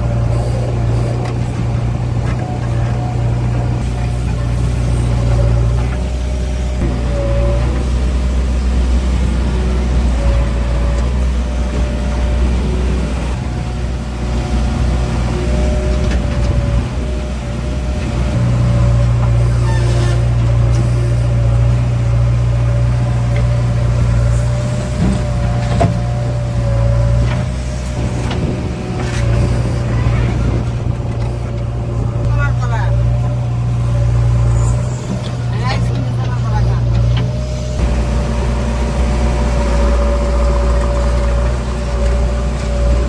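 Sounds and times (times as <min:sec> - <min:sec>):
diesel engine under load: 0:00.0 - 0:43.0.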